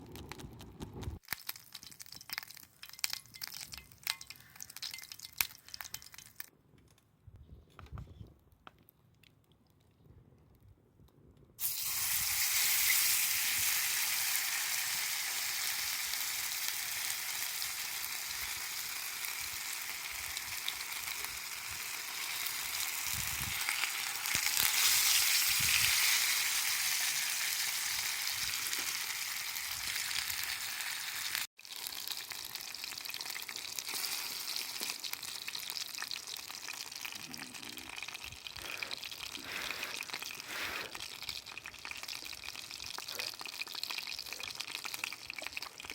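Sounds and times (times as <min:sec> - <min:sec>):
food sizzling over a fire: 0:00.0 - 0:06.5, 0:11.6 - 0:45.9.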